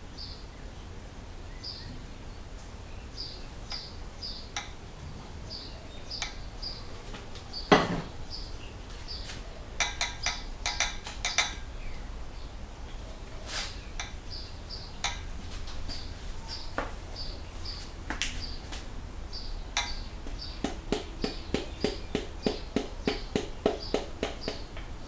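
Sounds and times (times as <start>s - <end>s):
bird chirping: 1.4s - 24.9s.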